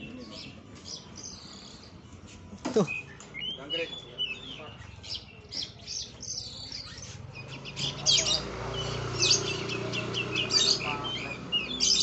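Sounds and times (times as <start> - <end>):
bird singing varied song: 0.0 - 12.0.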